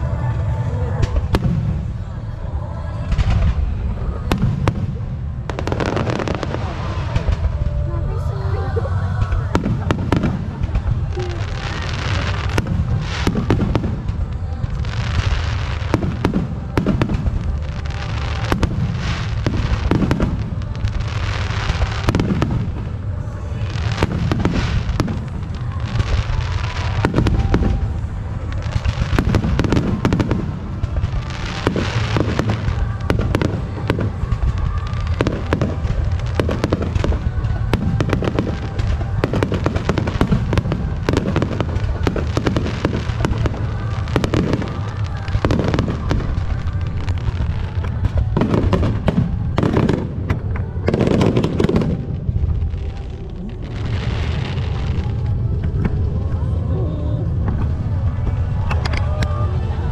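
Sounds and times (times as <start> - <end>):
fireworks booming: 0.0 - 56.4
fireworks crackling: 0.0 - 59.9.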